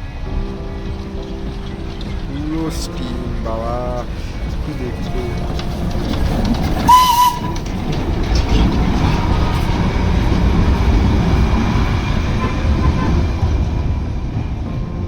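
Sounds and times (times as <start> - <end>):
steam train rumbling past: 0.0 - 15.0.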